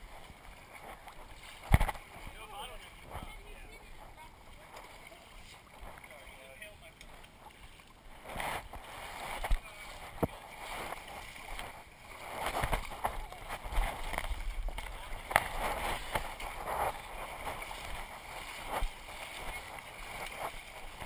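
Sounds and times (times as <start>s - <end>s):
water splashing from wading: 0.0s - 21.0s.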